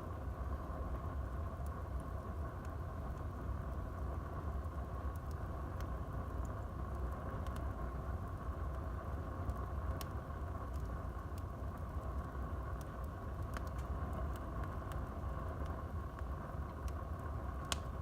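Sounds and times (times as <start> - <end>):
burning wood crackles: 0.0 - 18.0
low rumble of flame: 0.0 - 18.0.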